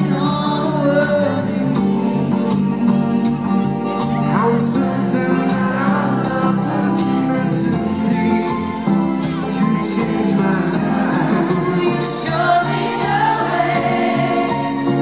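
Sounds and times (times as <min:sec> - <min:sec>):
man and woman singing: 0:00.0 - 0:15.0
pop band playing: 0:00.0 - 0:15.0.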